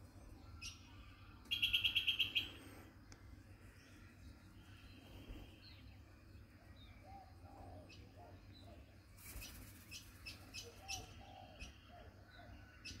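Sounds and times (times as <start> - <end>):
soft bird calls: 0.0 - 13.0.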